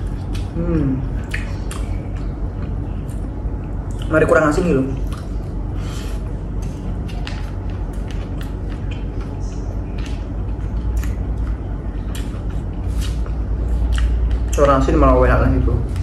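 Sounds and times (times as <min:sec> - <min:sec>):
chewing and mouth clicks: 0:00.0 - 0:14.8
steady low hum: 0:00.0 - 0:16.0.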